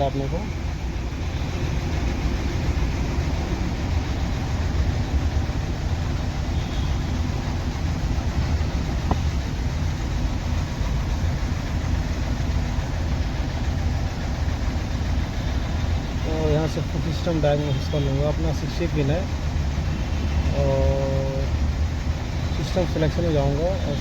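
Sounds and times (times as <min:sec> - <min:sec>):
diesel engine idling unevenly: 0:00.0 - 0:24.0
engine knocking: 0:00.0 - 0:24.0.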